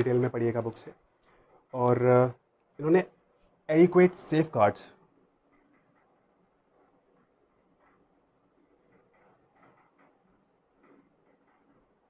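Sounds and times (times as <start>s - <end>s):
marker scratching on whiteboard: 0.0s - 12.0s.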